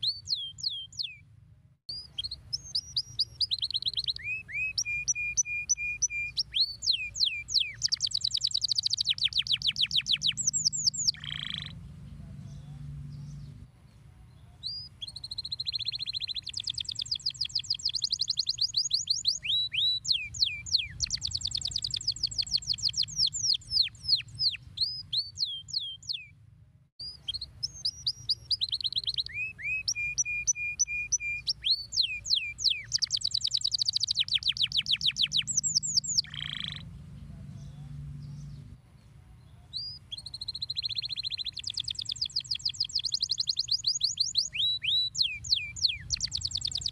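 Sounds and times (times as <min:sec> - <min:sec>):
canary singing trills: 0:00.0 - 0:01.2, 0:01.9 - 0:13.6, 0:14.3 - 0:26.4, 0:27.0 - 0:38.8, 0:39.4 - 0:46.9.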